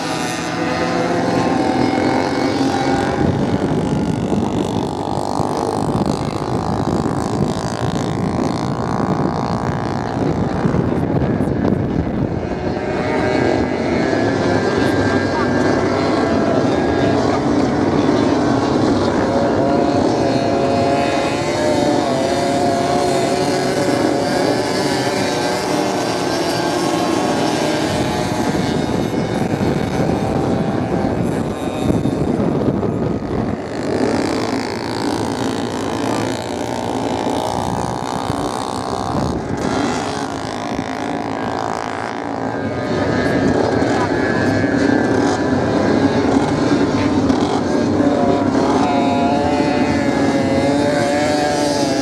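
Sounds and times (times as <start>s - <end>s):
motorcycle engines revving: 0.0s - 52.0s
steady rushing noise: 0.0s - 52.0s.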